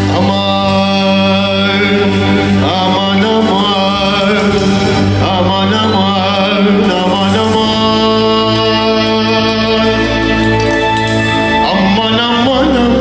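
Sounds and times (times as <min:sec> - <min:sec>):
electronic keyboard sustained notes: 0:00.0 - 0:13.0
man singing with ornamented notes: 0:00.0 - 0:13.0.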